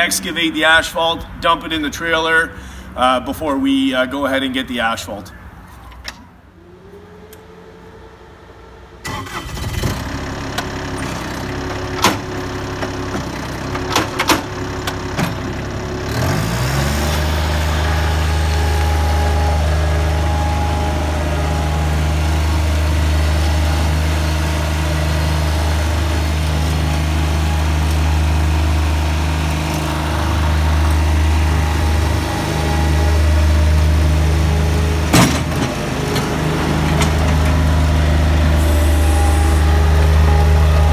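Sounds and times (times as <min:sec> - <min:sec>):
diesel loader engine running: 0:00.0 - 0:40.9.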